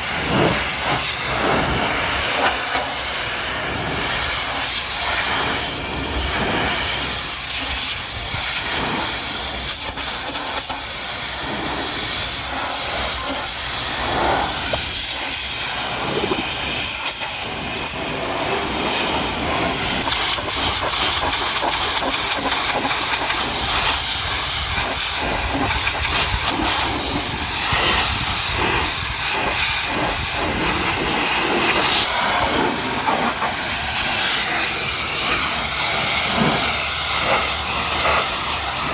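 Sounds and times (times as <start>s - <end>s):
pressure washer spraying: 0.0s - 38.9s.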